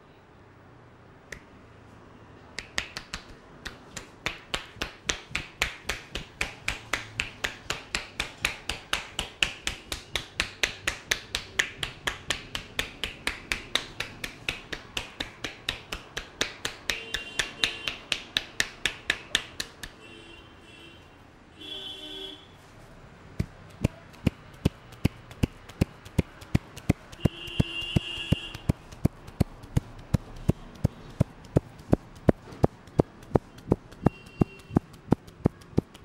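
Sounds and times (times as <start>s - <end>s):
palms clapping on head: 2.6s - 20.0s, 23.4s - 36.0s.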